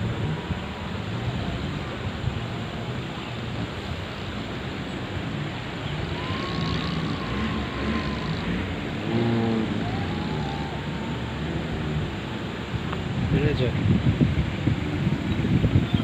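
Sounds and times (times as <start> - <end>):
dense rushing noise: 0.0 - 16.0
jeep engine running: 0.0 - 16.0.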